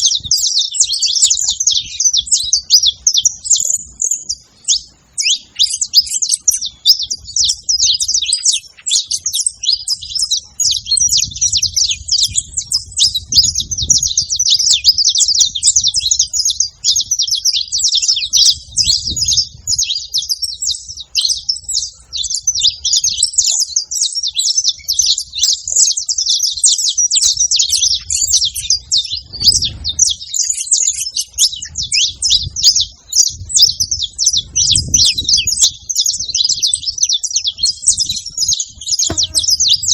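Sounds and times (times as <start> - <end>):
finch singing chirps and trills: 0.0 - 39.9.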